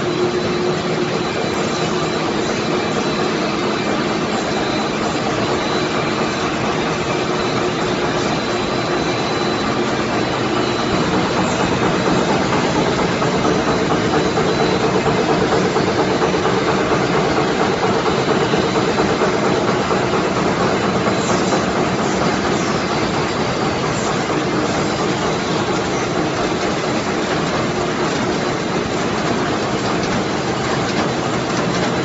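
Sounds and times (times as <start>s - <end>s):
production line machinery running: 0.0s - 32.0s
steady machine tones: 0.0s - 32.0s.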